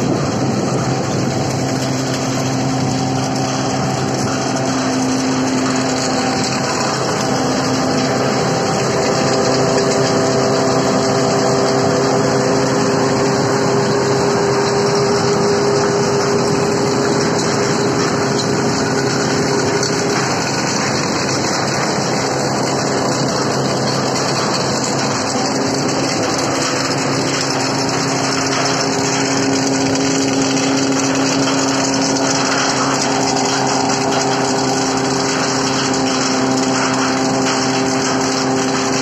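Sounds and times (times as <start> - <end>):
machine hum: 0.0 - 39.0
threshing machine running: 0.0 - 39.0.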